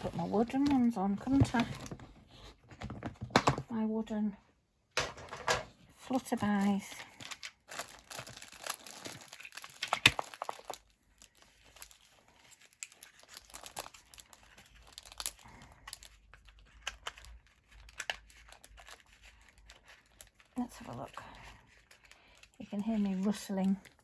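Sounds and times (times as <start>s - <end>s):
packets rustling and crinkling: 0.0s - 3.6s, 5.0s - 24.0s.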